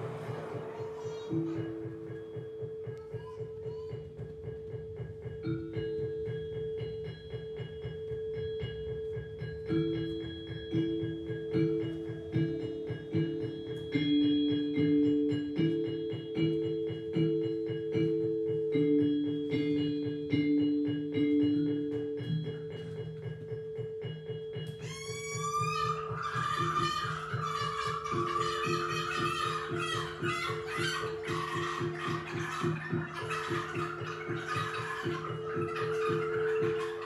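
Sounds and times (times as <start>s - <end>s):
metallophone notes: 0.0s - 37.0s.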